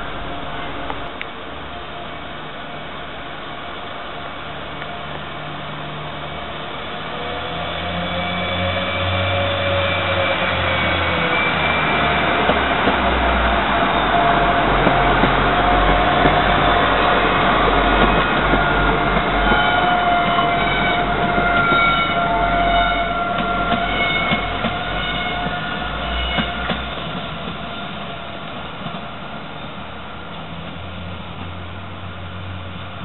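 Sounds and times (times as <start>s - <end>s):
diesel train engine rumble: 0.0s - 33.0s.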